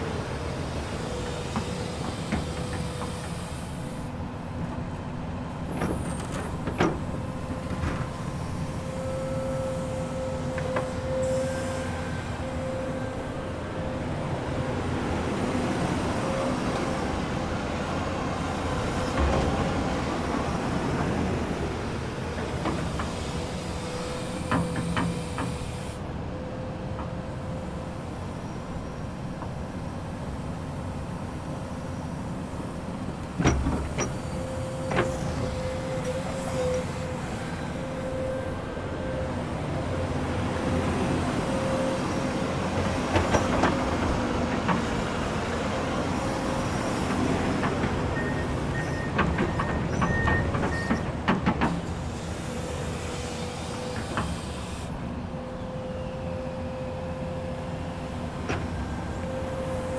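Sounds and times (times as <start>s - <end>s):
excavator engine rumble: 0.0s - 59.9s.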